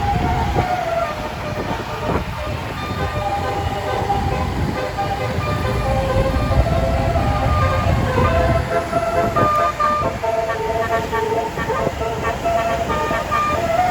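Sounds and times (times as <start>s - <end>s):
bus engine rumble: 0.0s - 13.9s
multi-tone air horn tune: 0.0s - 13.9s.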